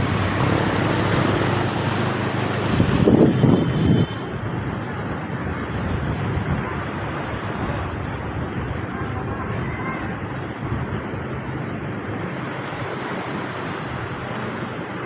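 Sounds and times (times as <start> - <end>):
wind buffeting microphone: 0.0 - 14.9
floodwater rushing and splashing: 0.0 - 15.0
motorbike riding: 0.0 - 15.0.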